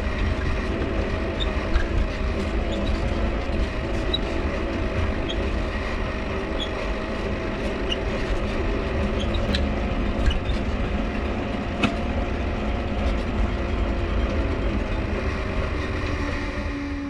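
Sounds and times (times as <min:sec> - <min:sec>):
bicycle dynamo humming: 0:00.0 - 0:17.0.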